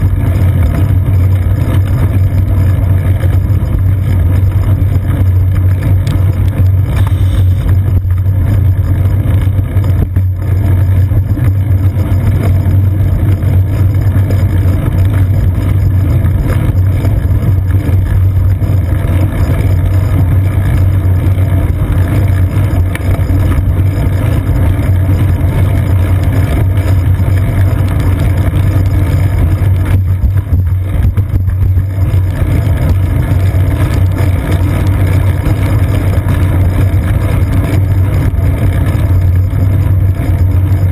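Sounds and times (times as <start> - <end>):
wind and road rumble: 0.0 - 40.9.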